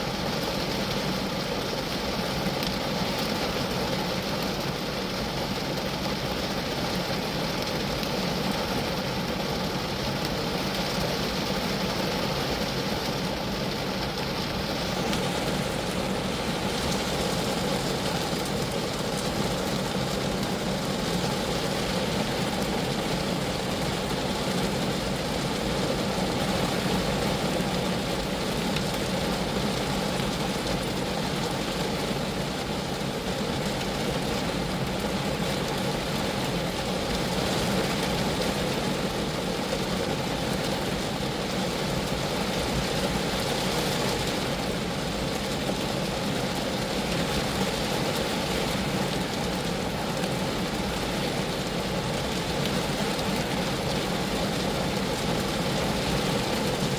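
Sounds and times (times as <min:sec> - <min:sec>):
rain pattering on a car: 0:00.0 - 0:56.9.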